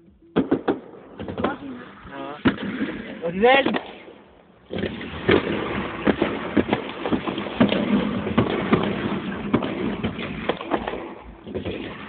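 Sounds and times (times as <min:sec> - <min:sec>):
fireworks bangs and crackles: 0:00.3 - 0:12.0.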